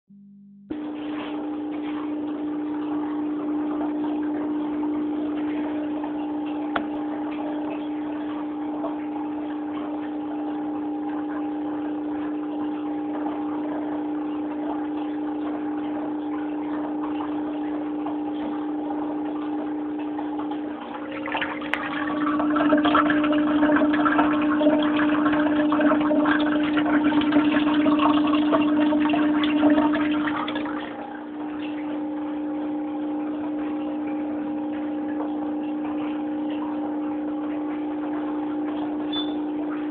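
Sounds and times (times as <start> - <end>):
aquarium equipment hum: 0.1 - 39.9
water churning and splashing: 0.8 - 39.9.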